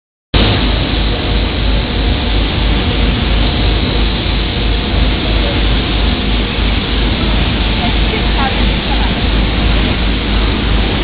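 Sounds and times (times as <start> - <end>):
machine high whine and throb: 0.4 - 11.0.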